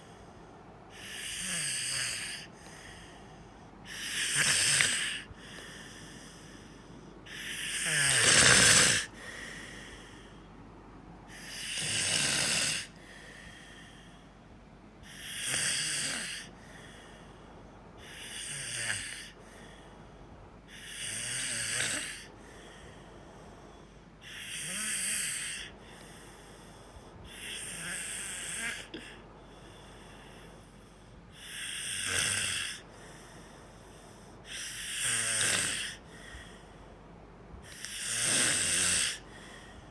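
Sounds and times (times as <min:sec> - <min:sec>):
breathy snoring: 0:00.0 - 0:10.5, 0:11.2 - 0:14.4, 0:15.0 - 0:20.0, 0:20.7 - 0:36.9, 0:37.6 - 0:39.9.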